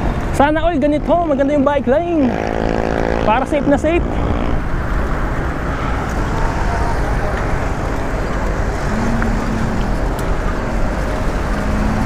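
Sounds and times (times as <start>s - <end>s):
cars going by: 0.0s - 12.0s.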